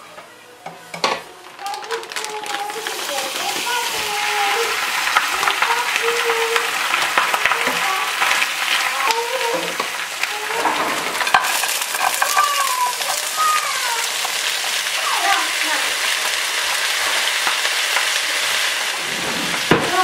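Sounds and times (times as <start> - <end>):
meat sizzling in oil: 1.4 - 20.0.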